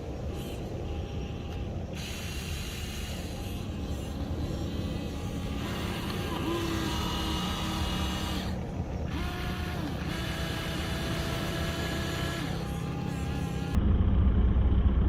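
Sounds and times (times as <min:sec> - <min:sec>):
electric motors whining: 0:00.0 - 0:13.8
steady mechanical hum: 0:00.0 - 0:15.0.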